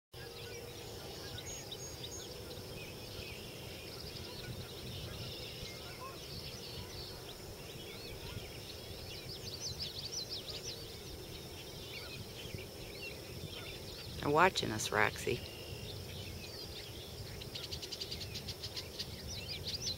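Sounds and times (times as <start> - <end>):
small birds chirping: 0.2 - 19.9.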